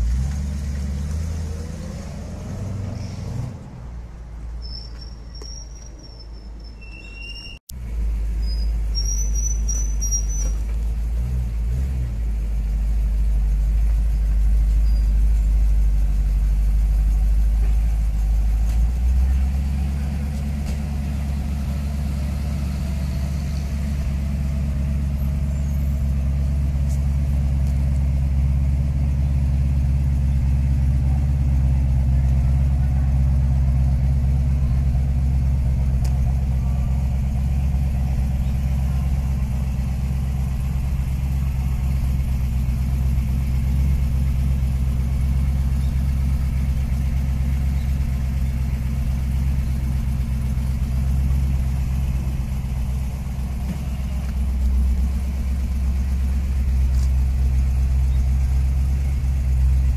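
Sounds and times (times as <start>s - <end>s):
car engine idling: 0.0s - 2.7s, 7.7s - 59.9s.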